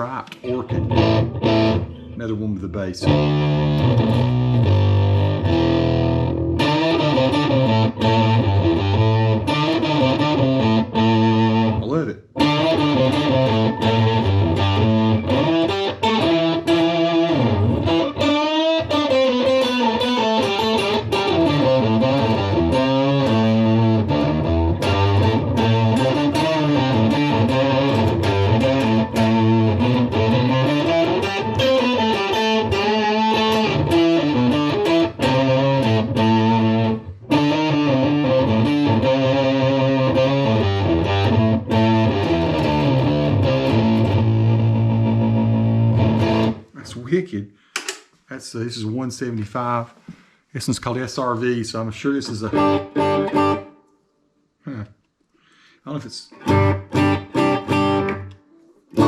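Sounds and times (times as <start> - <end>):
clean electric guitar with bass notes: 0.3 - 2.3, 3.0 - 46.7, 52.4 - 53.7, 56.4 - 59.0.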